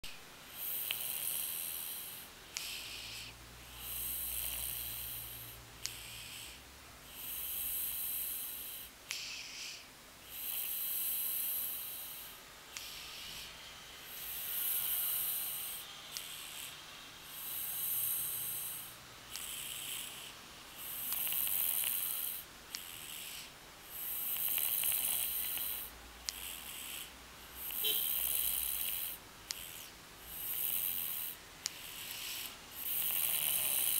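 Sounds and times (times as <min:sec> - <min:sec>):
wheezy snoring: 0:00.0 - 0:33.9.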